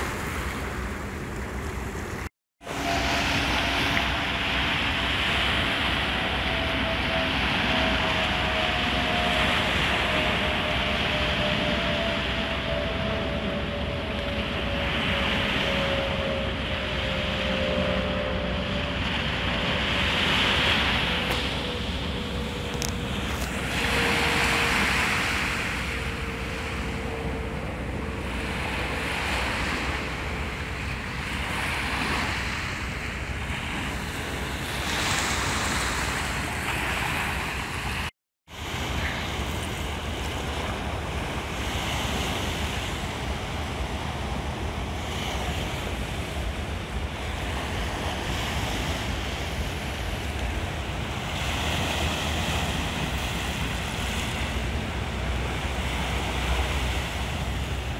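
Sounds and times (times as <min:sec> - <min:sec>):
waves breaking on shore: 0:00.0 - 0:57.9
wind on microphone: 0:00.0 - 0:57.9.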